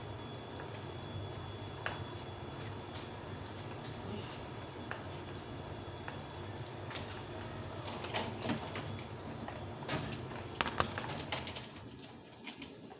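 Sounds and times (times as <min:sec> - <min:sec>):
low background hum: 0:00.0 - 0:12.9.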